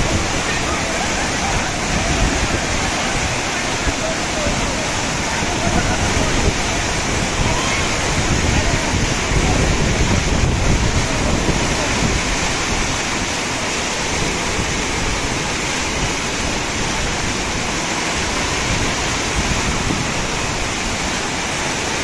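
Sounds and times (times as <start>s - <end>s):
river floodwater rushing: 0.0s - 22.0s.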